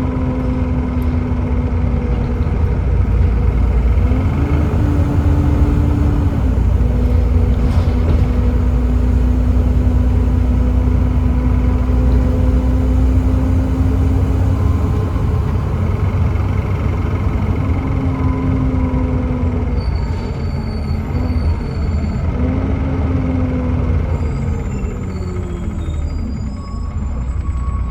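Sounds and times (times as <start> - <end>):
gearbox whine: 0.0 - 22.5
bus engine rumbling: 0.0 - 27.9.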